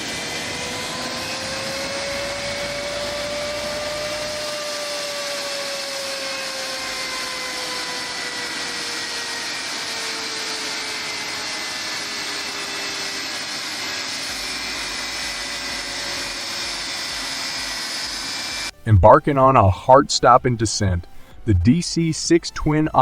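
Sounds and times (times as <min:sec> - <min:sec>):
jet engine roaring with whine: 0:00.0 - 0:19.0.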